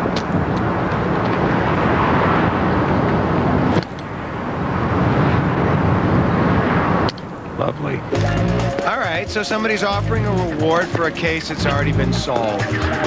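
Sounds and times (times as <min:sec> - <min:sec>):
rumbling vehicle noise: 0:00.0 - 0:13.0.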